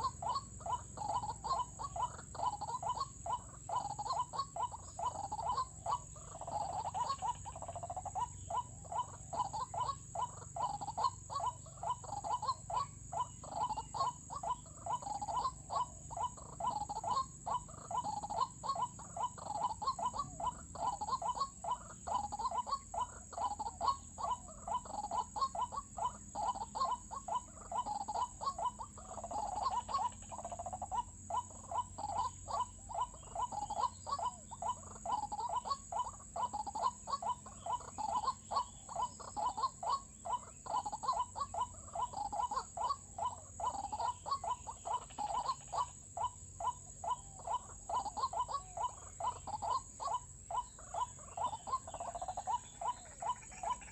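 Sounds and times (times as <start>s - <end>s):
waterhen harsh calls: 0.0s - 53.9s.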